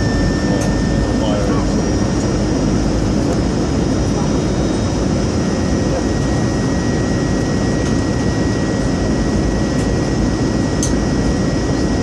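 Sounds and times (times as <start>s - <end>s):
jet airliner engines: 0.0s - 12.0s.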